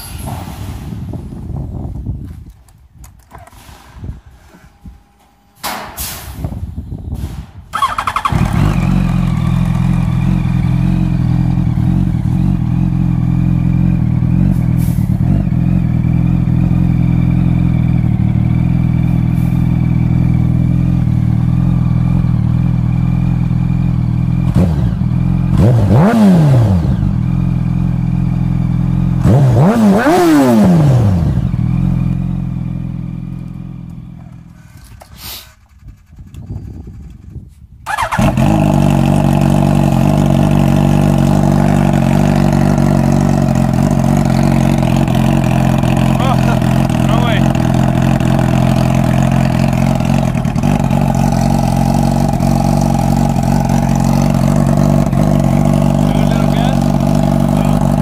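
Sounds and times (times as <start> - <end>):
motorcycle engine revving: 7.2 - 58.0
motorcycle engine idling: 7.7 - 25.6, 26.9 - 29.3, 31.3 - 58.0.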